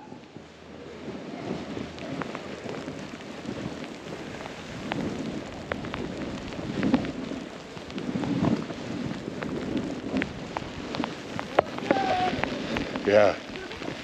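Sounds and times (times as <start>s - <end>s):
snowboard scraping over snow: 0.0s - 14.0s.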